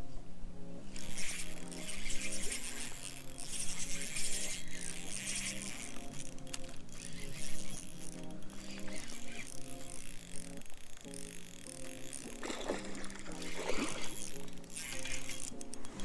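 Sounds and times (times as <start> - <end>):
melodic background music: 0.0 - 16.0.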